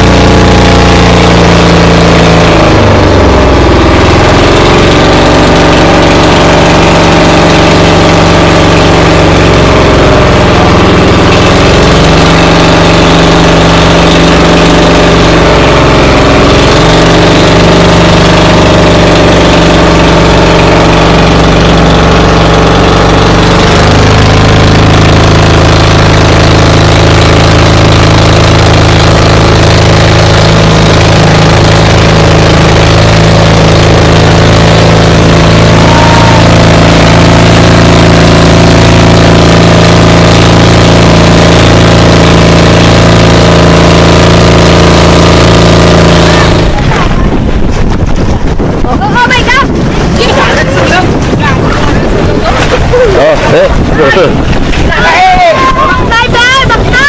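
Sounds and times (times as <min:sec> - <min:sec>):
engine running loud: 0:00.0 - 0:57.0.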